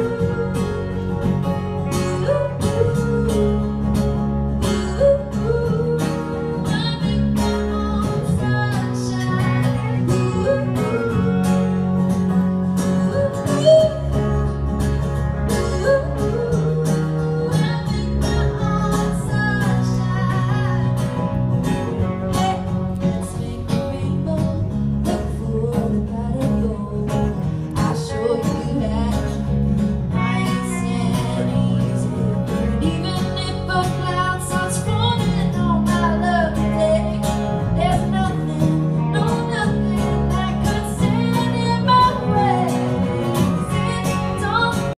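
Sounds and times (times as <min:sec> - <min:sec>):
bass line: 0:00.0 - 0:44.9
guitar: 0:00.0 - 0:44.9.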